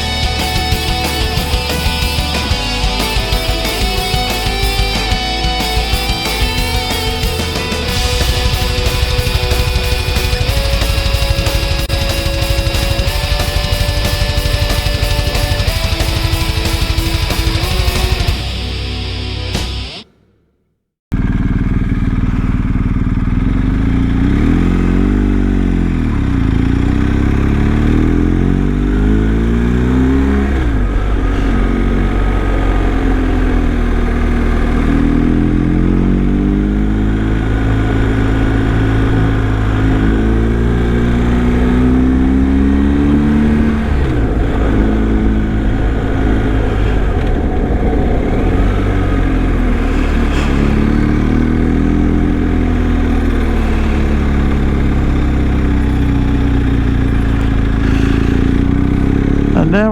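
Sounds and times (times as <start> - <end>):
motorcycle engine revving: 0.0 - 20.1, 21.1 - 59.9.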